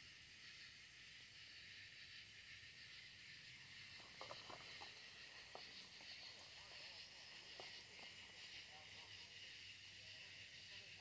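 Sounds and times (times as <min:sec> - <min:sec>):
faint hiss of night air: 0:00.0 - 0:11.0.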